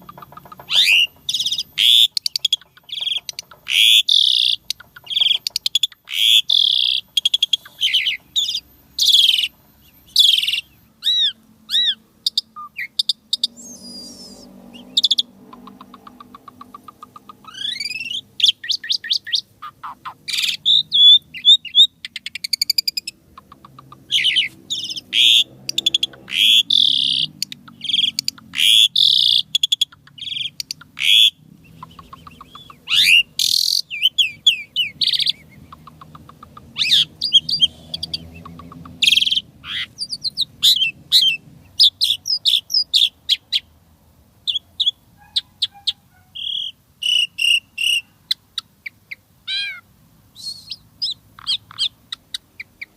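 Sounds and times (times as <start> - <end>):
starling singing: 0.0 - 43.7, 44.5 - 52.9.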